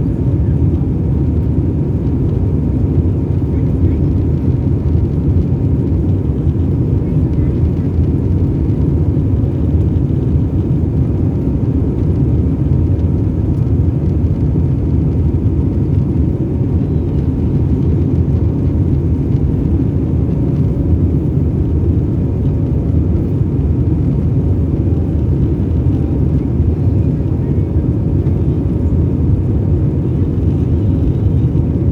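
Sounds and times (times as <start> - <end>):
faint constant hum: 0.0 - 31.9
jet engine cabin rumble: 0.0 - 31.9.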